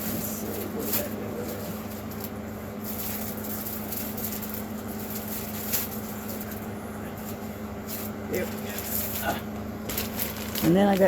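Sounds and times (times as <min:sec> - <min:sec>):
mechanical room hum: 0:00.0 - 0:11.0
plastic packaging rustling: 0:00.0 - 0:11.0.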